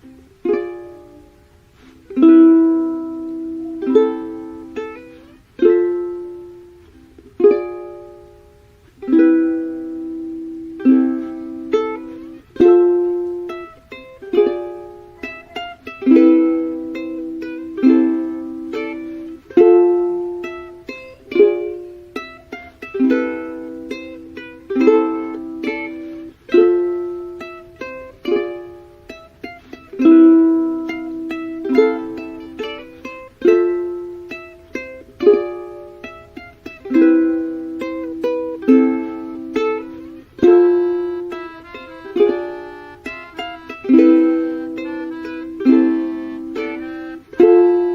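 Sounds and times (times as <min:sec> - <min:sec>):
plucked string tune: 0:00.0 - 0:47.9.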